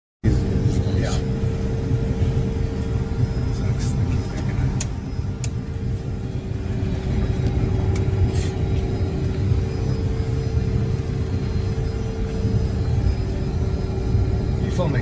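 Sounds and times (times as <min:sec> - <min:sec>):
aircraft engines rumbling: 0:00.2 - 0:15.0.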